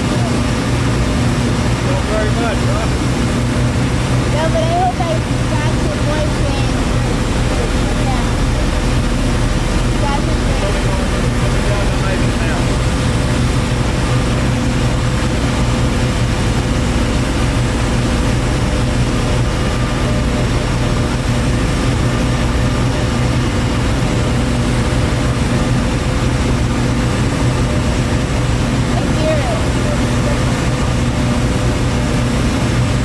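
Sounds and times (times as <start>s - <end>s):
high machine whine: 0.0s - 33.0s
power plant machinery drone: 0.0s - 33.0s.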